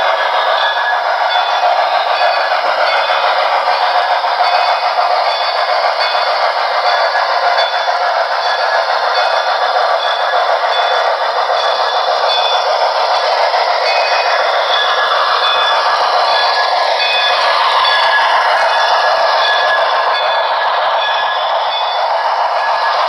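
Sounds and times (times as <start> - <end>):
model train wheels clattering on rail: 0.0 - 23.0.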